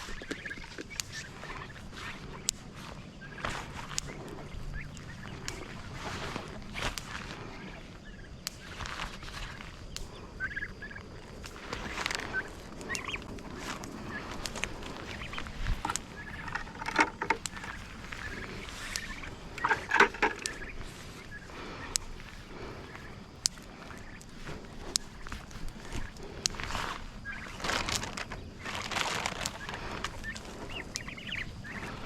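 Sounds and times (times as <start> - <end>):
turkeys gobbling and yelping: 0.0 - 32.0.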